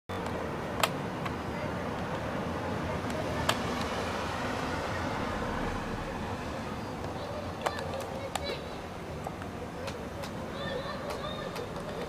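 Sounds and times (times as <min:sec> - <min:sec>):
background town noise: 0:00.1 - 0:12.0
distant aircraft drone: 0:00.1 - 0:12.0.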